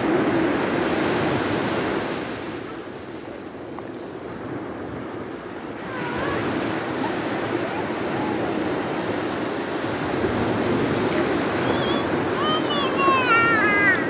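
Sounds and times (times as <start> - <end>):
sea surf breaking: 0.0 - 14.0.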